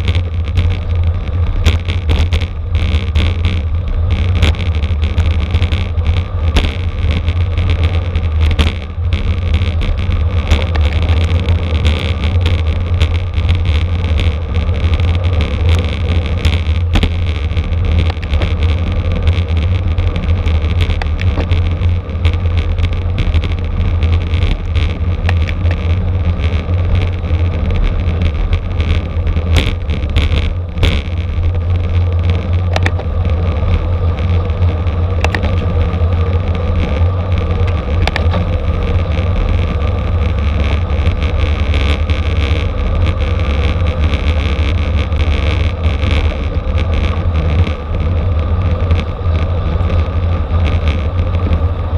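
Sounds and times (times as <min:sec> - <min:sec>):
road noise: 0:00.0 - 0:51.9
sharp clicks and ticks: 0:00.0 - 0:51.9
wind buffeting microphone: 0:00.0 - 0:51.9.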